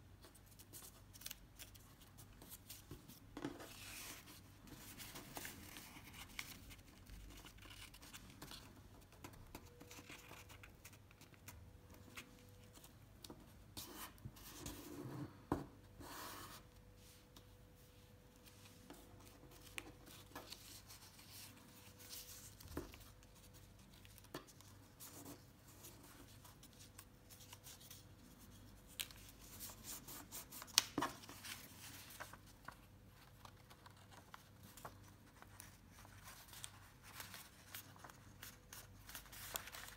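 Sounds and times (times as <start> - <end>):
paper being folded and creased: 0.2 - 13.0, 18.4 - 39.9.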